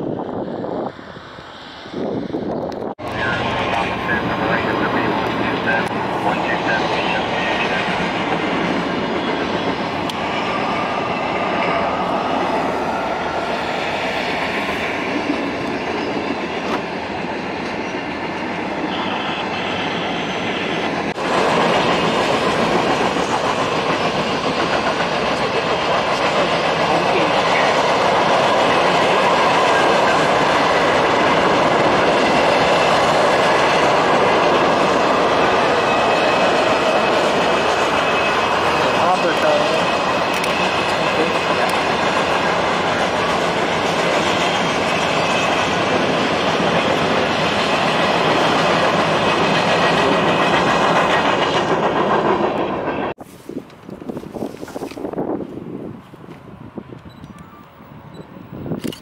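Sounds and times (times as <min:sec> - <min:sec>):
freight train rumbling past: 0:00.0 - 0:58.8
steel wheels clacking on rails: 0:03.0 - 0:53.1.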